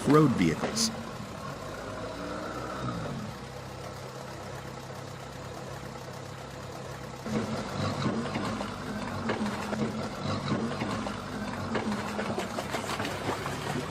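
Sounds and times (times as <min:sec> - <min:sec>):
vehicle engine idling and revving: 0:00.0 - 0:13.9.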